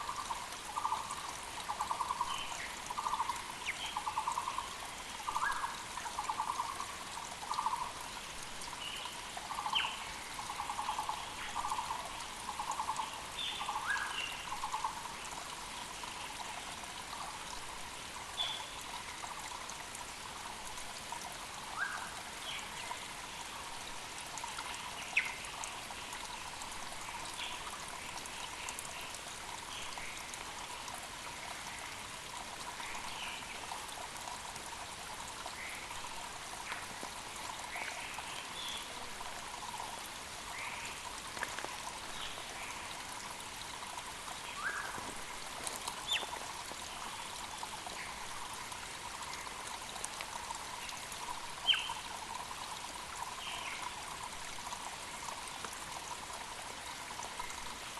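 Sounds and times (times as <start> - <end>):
creek running: 0.0 - 57.9.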